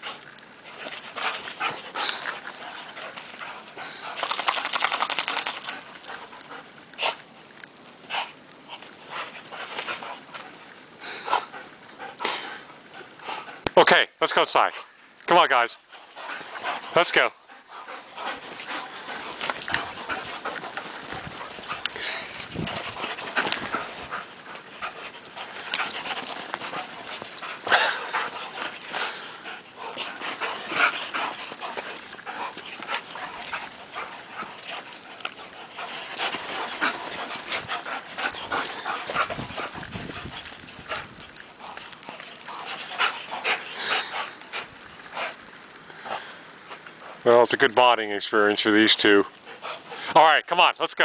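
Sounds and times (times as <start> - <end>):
dogs panting: 0.0 - 51.0.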